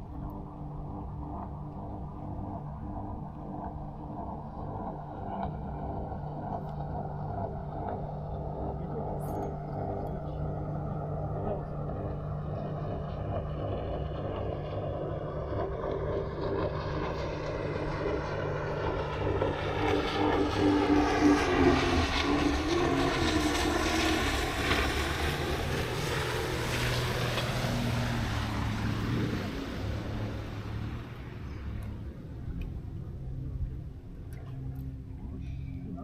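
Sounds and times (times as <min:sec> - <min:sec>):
engine passing by: 0:00.0 - 0:36.0.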